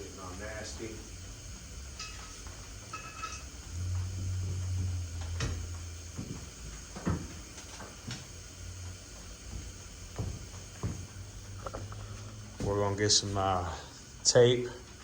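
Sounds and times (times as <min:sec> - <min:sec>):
low hum: 0:00.0 - 0:06.8, 0:08.4 - 0:15.0.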